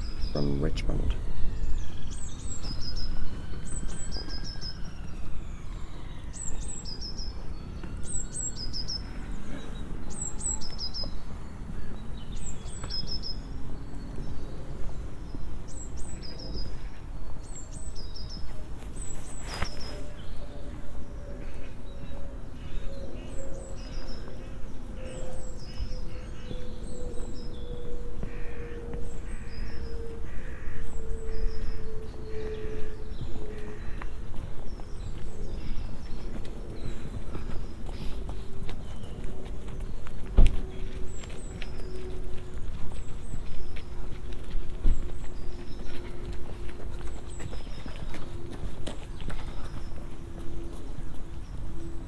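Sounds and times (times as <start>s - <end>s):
low outdoor background noise: 0.0s - 52.0s
songbird chirping: 0.0s - 52.0s.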